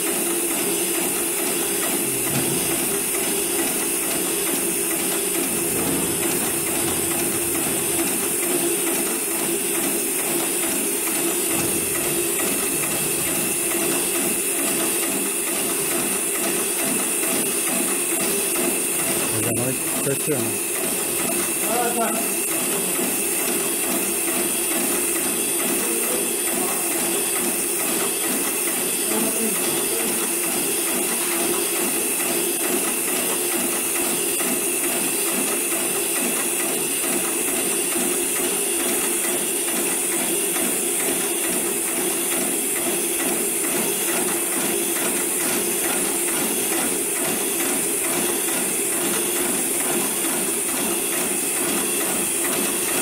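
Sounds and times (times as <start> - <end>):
industrial sewing machine running: 0.0 - 53.0.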